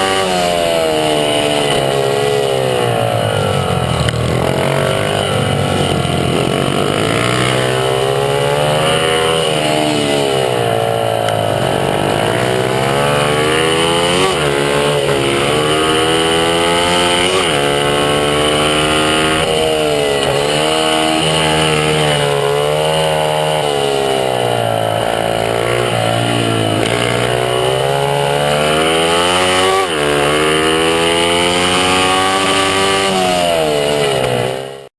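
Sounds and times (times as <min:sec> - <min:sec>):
small motorbike engine revving: 0:00.0 - 0:34.9.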